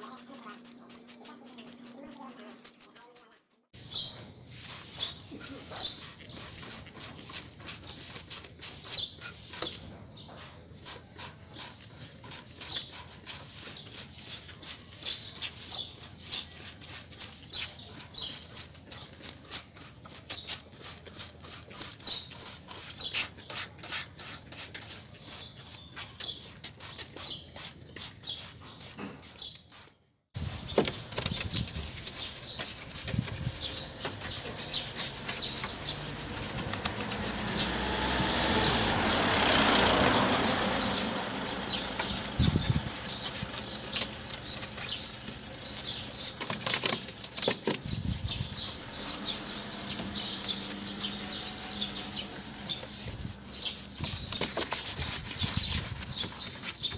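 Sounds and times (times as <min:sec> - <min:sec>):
brush scrubbing wet plastic: 0:00.0 - 0:56.9.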